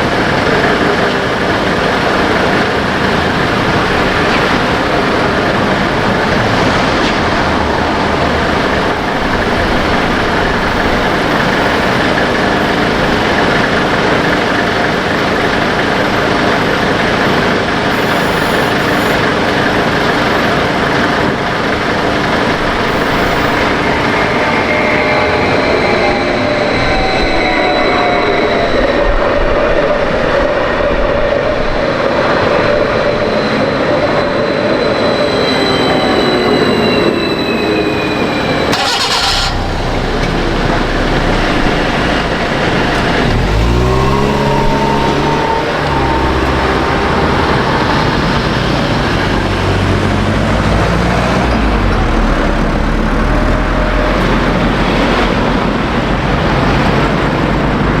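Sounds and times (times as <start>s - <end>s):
traction motor rising in pitch: 0.0s - 29.5s, 35.1s - 57.4s
heavy wind noise: 0.0s - 58.0s
train running: 0.0s - 58.0s.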